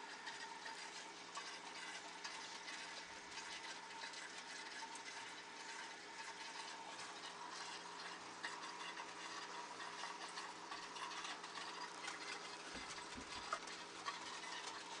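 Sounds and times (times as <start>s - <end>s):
aquarium filter bubbling: 0.0s - 15.0s.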